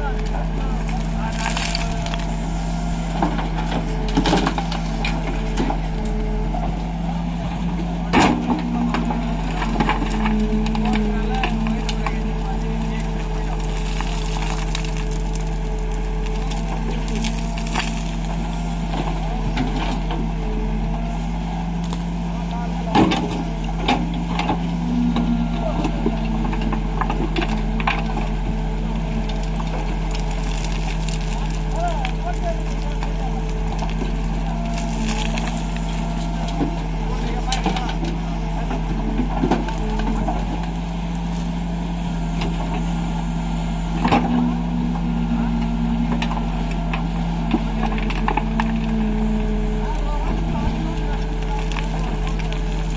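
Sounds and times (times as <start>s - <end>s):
falling soil and stones rattling: 0.0s - 7.0s, 7.6s - 20.4s, 22.9s - 45.1s, 46.0s - 52.9s
bucket crunching stony soil: 0.0s - 7.7s, 8.3s - 20.4s, 23.2s - 44.7s, 46.0s - 52.9s
diesel engine running: 0.0s - 52.9s.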